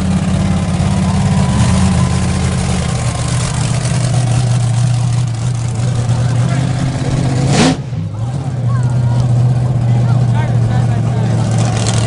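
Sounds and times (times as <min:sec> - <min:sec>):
monster truck engine idling: 0:00.0 - 0:12.0.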